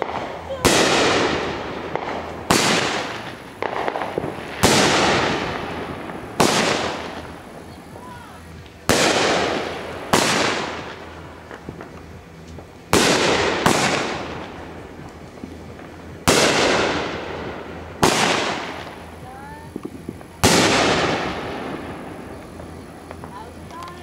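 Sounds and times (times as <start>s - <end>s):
fireworks bangs with echo: 0.0s - 24.0s.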